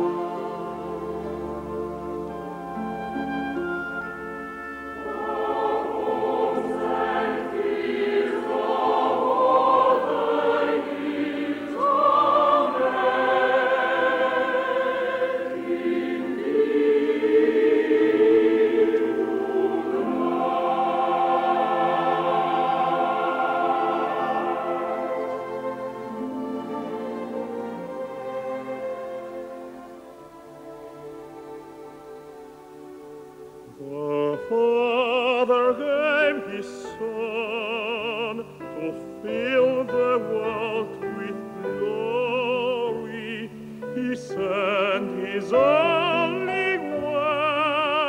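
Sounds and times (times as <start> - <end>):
choir singing a carol: 0.0 - 48.0.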